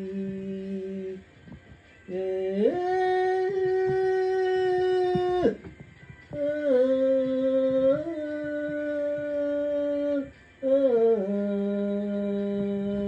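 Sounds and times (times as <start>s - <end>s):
person humming a tune: 0.0s - 13.0s.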